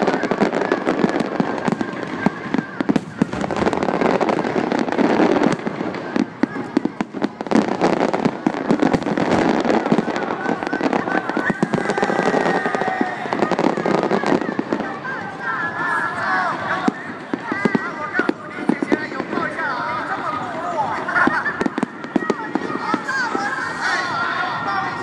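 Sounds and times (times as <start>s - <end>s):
crowd voices: 0.0s - 25.0s
fireworks bangs and crackling: 0.0s - 25.0s.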